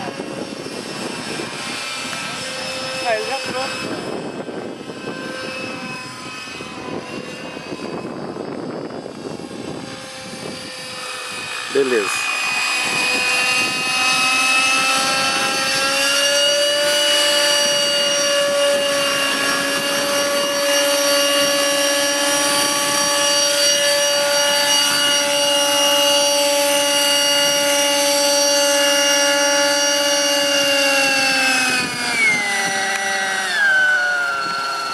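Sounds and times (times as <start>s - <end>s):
model helicopter engine whine: 0.0s - 34.9s.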